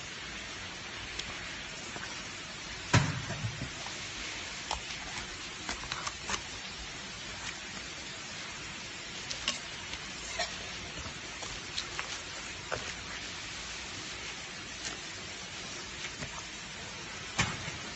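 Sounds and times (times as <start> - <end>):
steady hiss: 0.0 - 17.9.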